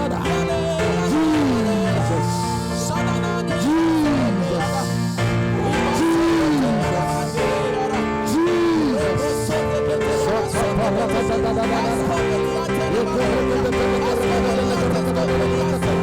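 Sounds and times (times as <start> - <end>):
sustained chords: 0.0 - 16.0.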